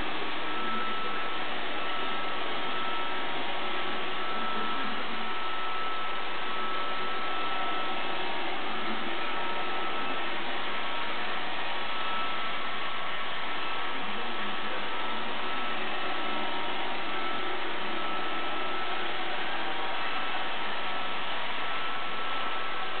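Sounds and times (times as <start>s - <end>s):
robot vacuum whirring: 0.0s - 21.1s.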